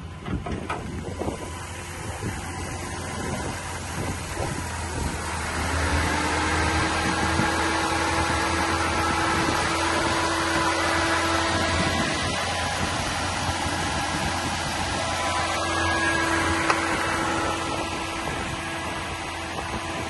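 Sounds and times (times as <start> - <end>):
car engine idling: 0.0 - 20.0
steady hum: 0.0 - 20.0.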